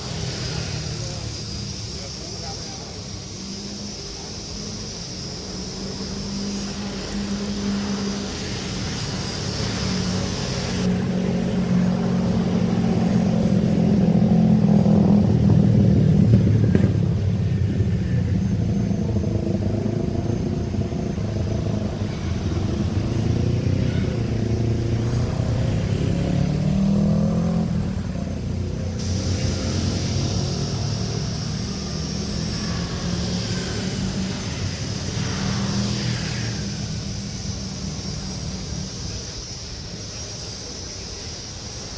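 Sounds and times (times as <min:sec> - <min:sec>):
faint engine whine: 0:00.0 - 0:41.9
jet engines rumbling: 0:00.0 - 0:41.9.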